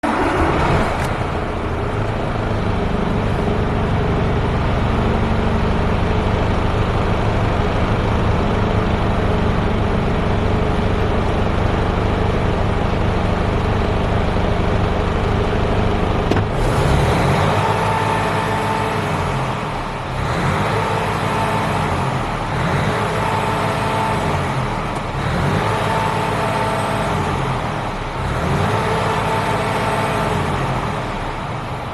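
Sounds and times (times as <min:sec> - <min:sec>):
truck diesel engine idling and revving: 0:00.0 - 0:31.9.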